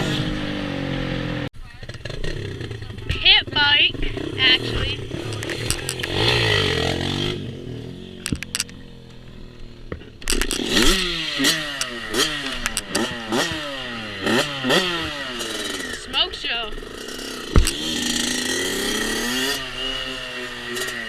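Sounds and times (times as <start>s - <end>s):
small engine revving: 0.0s - 21.0s.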